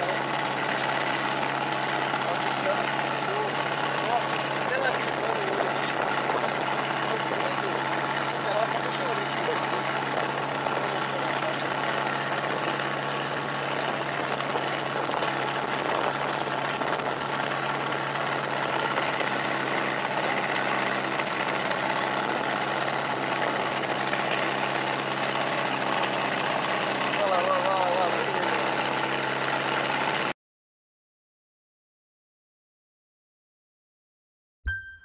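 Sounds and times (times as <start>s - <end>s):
aircraft engine and propeller idling: 0.0s - 30.4s.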